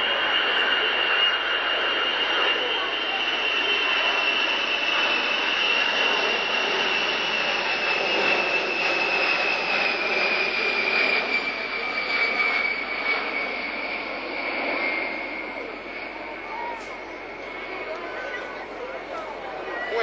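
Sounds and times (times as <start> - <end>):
jet aircraft flyby: 0.0 - 20.0.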